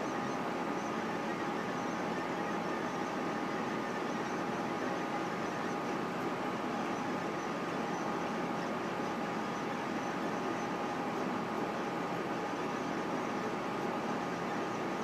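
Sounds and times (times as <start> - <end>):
fans and motors whirring: 0.0 - 15.0.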